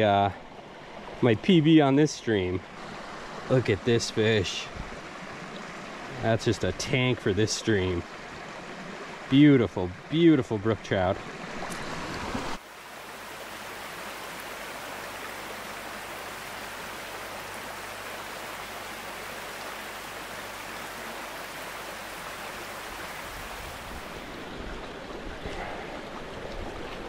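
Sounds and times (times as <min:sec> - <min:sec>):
brook water rushing: 0:00.0 - 0:27.0.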